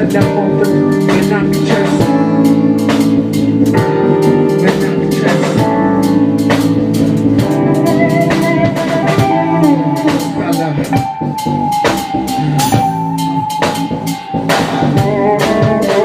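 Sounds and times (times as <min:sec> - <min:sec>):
drum kit steady beat: 0:00.0 - 0:16.0
sustained instrumental notes: 0:00.0 - 0:16.0.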